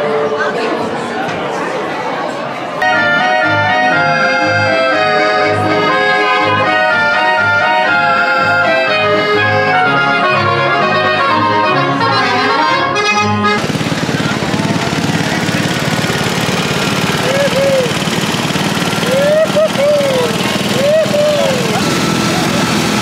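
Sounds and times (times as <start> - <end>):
folk dance music with oom-pah bass: 2.8 - 23.0.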